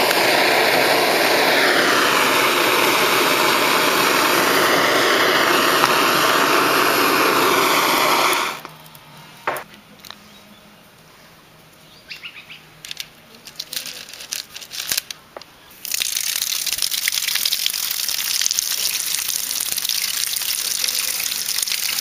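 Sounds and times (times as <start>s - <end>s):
loud dense crackling hiss: 0.0s - 9.7s, 12.9s - 22.0s.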